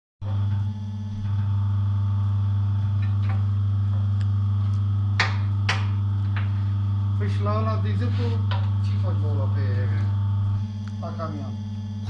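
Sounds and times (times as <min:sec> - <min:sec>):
low machine hum: 0:00.2 - 0:12.0.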